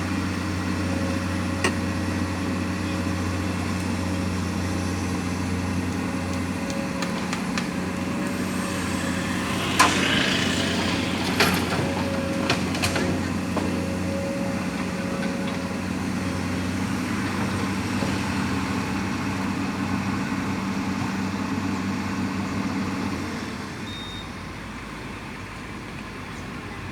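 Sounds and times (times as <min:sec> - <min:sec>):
heavy diesel engine running: 0:00.0 - 0:26.9.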